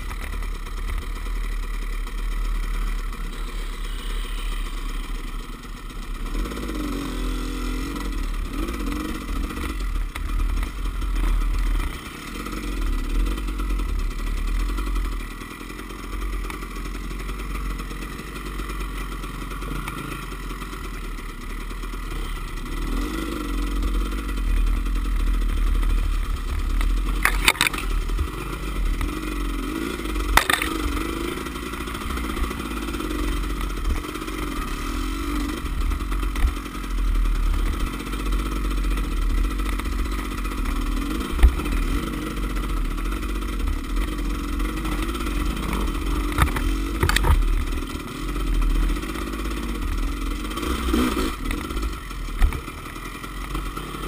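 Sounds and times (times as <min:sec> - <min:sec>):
motorcycle engines revving: 0:00.0 - 0:54.0
motorcycle rattling: 0:00.0 - 0:54.0.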